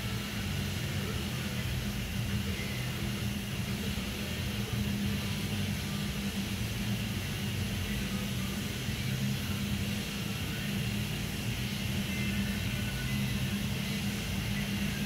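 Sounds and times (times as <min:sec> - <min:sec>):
shop machinery drone: 0:00.0 - 0:15.0.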